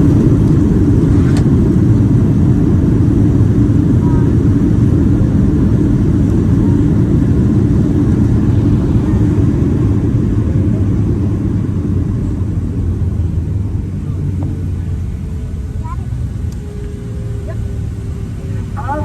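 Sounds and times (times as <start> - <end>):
jet cabin low rumble: 0.0 - 19.0.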